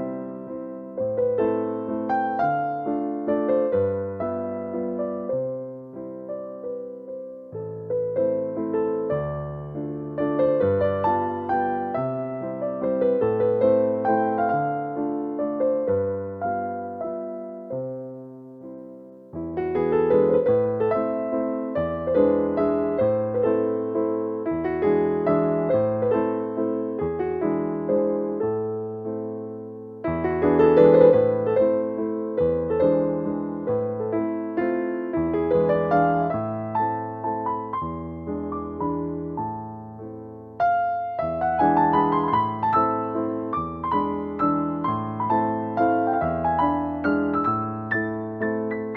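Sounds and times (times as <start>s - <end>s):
gentle piano music: 0.0s - 48.9s.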